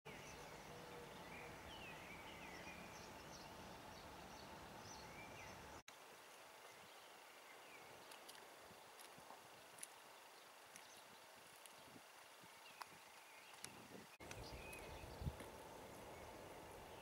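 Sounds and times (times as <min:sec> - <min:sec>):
birds chirping: 0:00.1 - 0:17.0.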